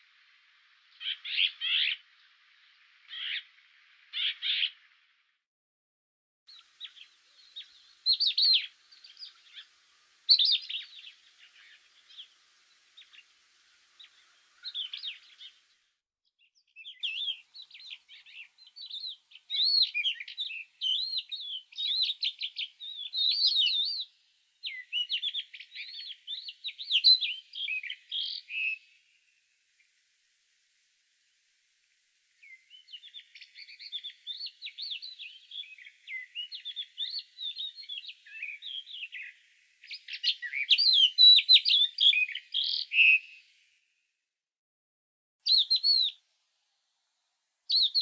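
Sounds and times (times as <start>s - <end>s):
songbirds chirping: 0.0s - 5.4s, 6.5s - 43.9s, 45.4s - 48.0s.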